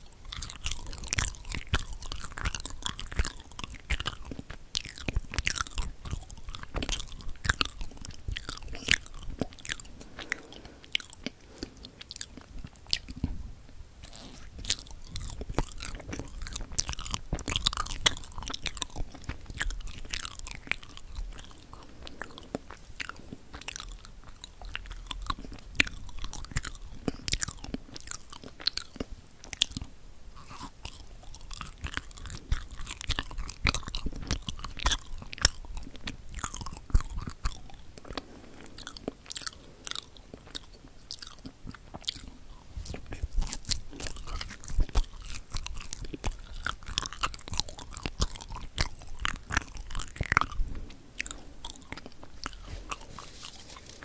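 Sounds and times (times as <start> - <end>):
close chewing sticky mouth sounds: 0.0 - 54.0.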